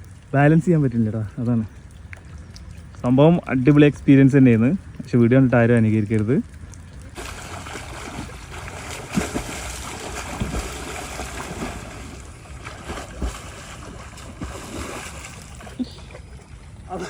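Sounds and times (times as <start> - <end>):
water splashing around a boat: 0.0 - 17.0.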